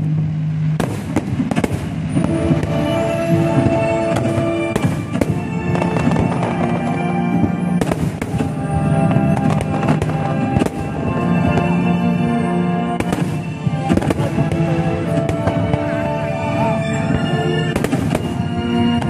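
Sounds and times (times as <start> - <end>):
fireworks bursting: 0.0 - 19.0
music with long held notes: 0.0 - 19.0.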